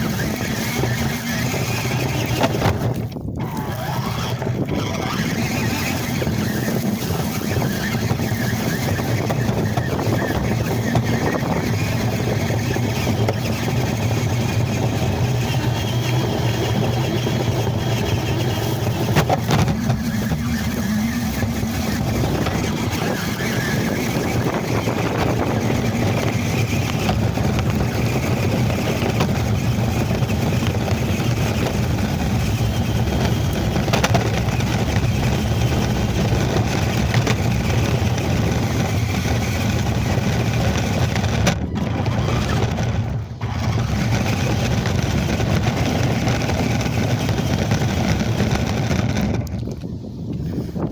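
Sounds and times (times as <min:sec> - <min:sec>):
toy truck motor whine: 0:00.0 - 0:50.9
tyres rattling over rough ground: 0:00.0 - 0:50.9
wind noise on microphone: 0:00.0 - 0:50.9.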